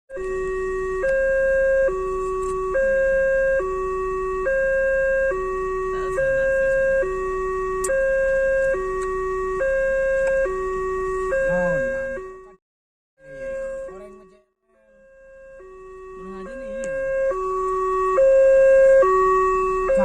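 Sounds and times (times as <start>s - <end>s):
electronic two-tone alarm: 0.1s - 12.6s, 13.2s - 20.0s.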